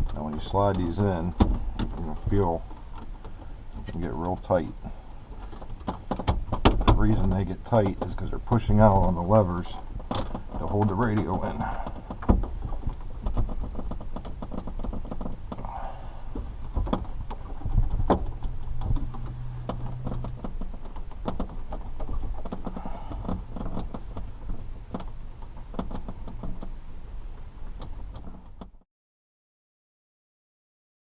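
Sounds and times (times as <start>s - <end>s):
plastic dash rattling: 0.0s - 28.8s.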